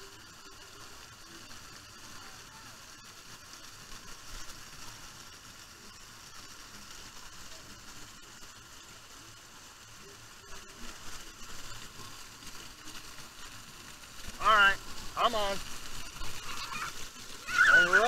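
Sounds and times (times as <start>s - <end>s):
water splashing from sprays: 0.0s - 18.0s.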